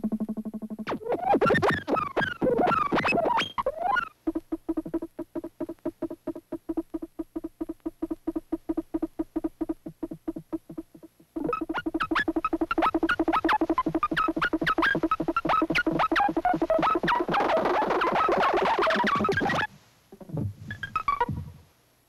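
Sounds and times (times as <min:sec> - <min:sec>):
sharp rising electronic chirps: 0:00.0 - 0:19.7, 0:20.7 - 0:21.4.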